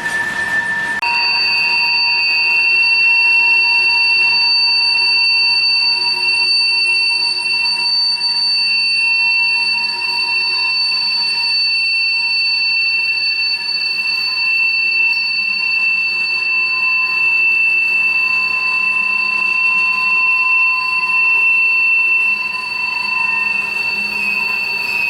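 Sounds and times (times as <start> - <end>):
train wheels squealing on rails: 0.0 - 25.0.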